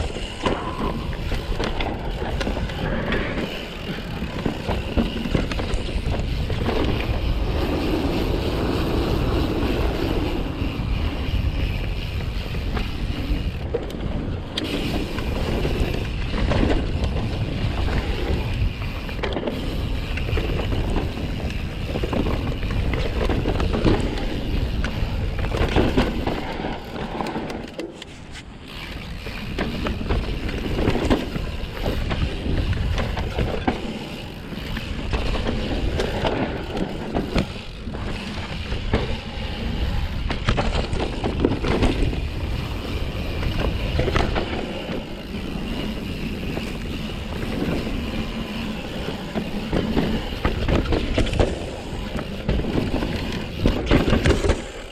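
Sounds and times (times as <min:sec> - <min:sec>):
bike rattling: 0:00.0 - 0:54.9
bike tyres rolling and skidding on dirt: 0:00.0 - 0:54.9.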